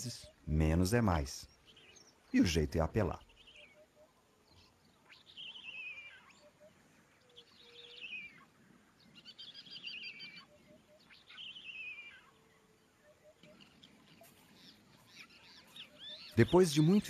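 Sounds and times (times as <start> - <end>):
bird warbling: 0.0 - 17.0
faint lower bird notes: 0.0 - 17.0.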